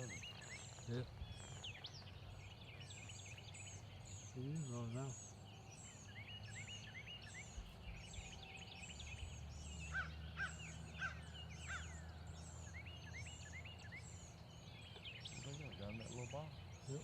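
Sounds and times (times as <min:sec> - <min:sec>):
small bird chirps: 0:00.0 - 0:17.0.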